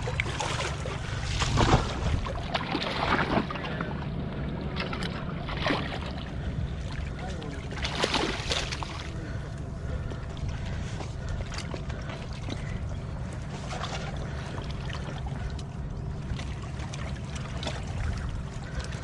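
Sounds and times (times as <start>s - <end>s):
rushing water with low rumble: 0.0s - 19.0s.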